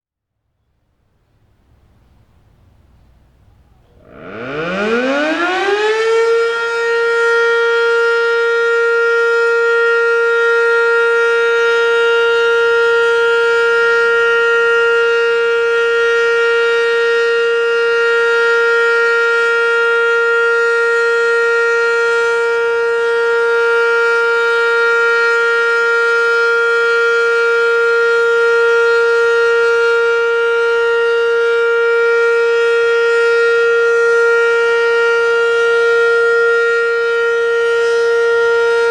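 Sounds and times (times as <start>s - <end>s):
loud warning siren: 3.8s - 38.9s.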